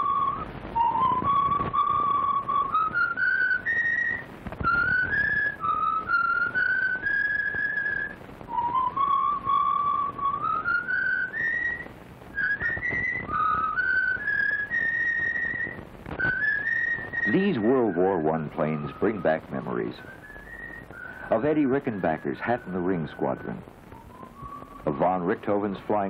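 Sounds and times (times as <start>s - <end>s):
person whistling a tune: 0.0s - 11.8s, 12.4s - 21.4s, 22.8s - 25.3s
old film soundtrack hiss: 0.0s - 26.0s.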